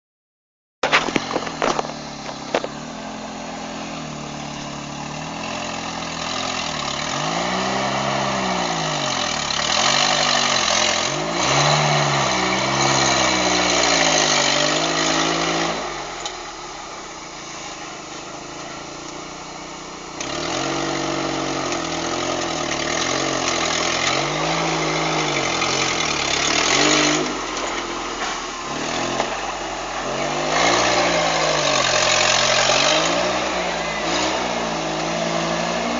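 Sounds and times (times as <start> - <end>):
off-road vehicle engine revving: 0.8 - 35.9.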